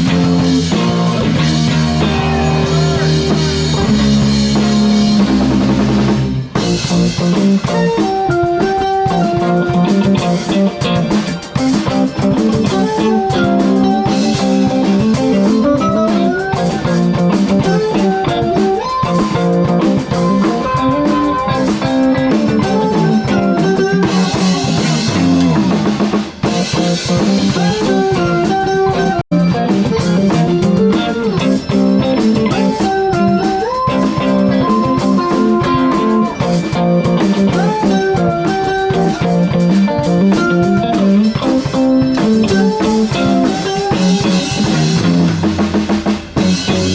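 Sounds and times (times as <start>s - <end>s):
rock band playing instrumental: 0.0s - 46.9s.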